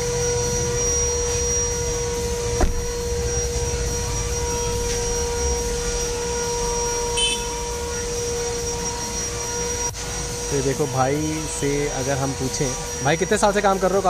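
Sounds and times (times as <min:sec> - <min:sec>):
electric motor machine droning: 0:00.0 - 0:14.0.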